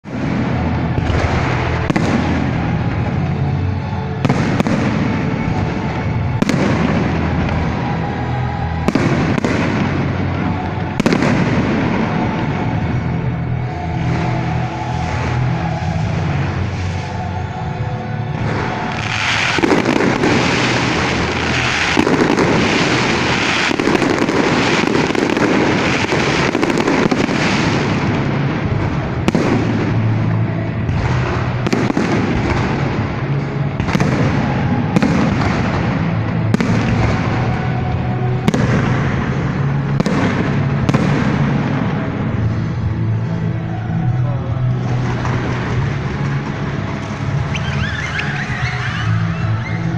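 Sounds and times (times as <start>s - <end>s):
fireworks sharp bangs: 0.0s - 43.4s
fireworks crackling bursts: 0.0s - 49.9s.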